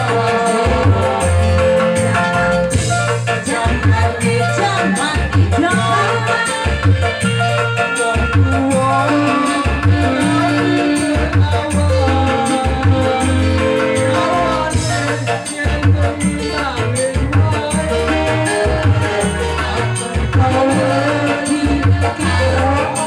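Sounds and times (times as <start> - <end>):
music with steady beat: 0.0 - 23.0.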